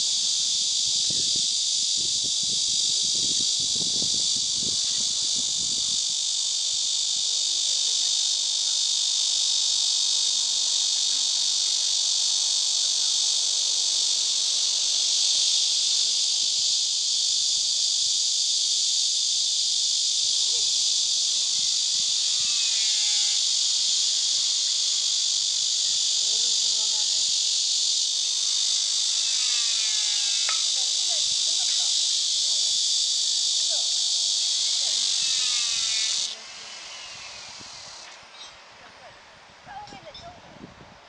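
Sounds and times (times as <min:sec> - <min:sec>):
wavering insect calls: 0:00.0 - 0:40.4
cicadas buzzing: 0:00.0 - 0:41.0.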